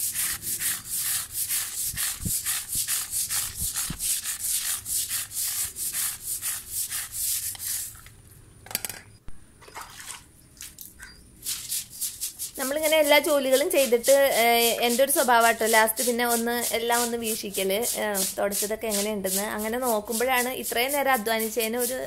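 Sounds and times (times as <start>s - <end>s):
brush scrubbing wet tile floor: 0.0s - 8.1s, 9.8s - 22.0s.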